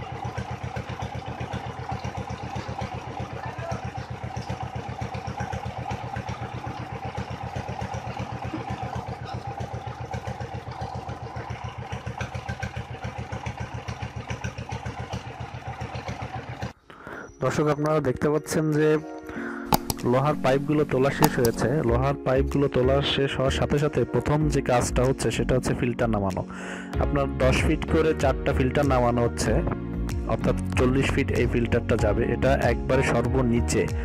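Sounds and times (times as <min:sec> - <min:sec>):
pump engine chugging: 0:00.0 - 0:17.6, 0:19.3 - 0:34.0.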